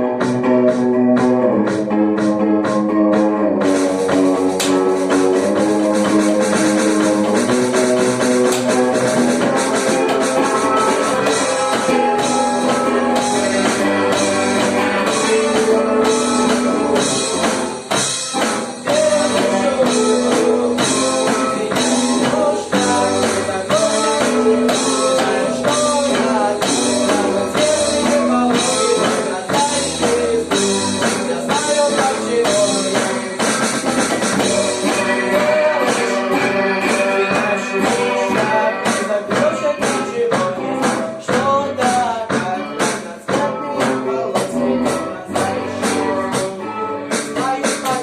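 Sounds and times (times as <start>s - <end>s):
rock band playing: 0.0s - 48.0s
steady drum beat: 0.0s - 48.0s.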